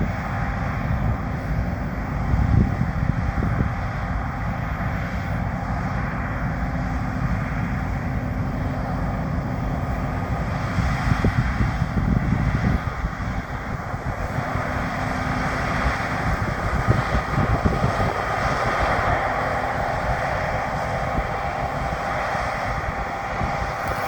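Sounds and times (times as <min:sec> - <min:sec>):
combine harvester drone: 0:00.0 - 0:24.0
faint steady whine: 0:00.0 - 0:24.0.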